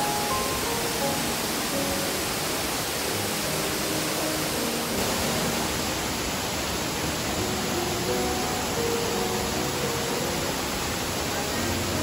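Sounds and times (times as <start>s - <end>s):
faint background music: 0.0s - 12.0s
waterfall pouring into pool: 0.0s - 12.0s.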